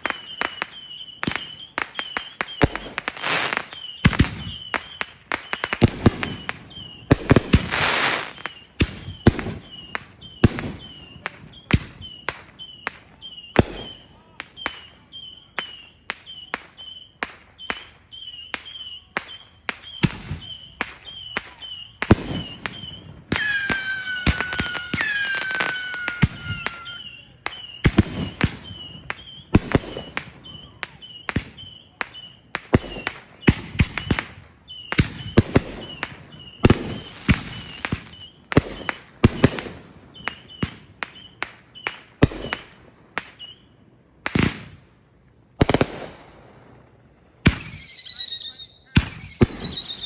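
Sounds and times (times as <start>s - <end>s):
fireworks bangs and cracks: 0.0s - 43.6s, 44.2s - 44.8s, 45.6s - 50.0s
firework falling whistle: 0.0s - 43.8s, 47.4s - 50.0s.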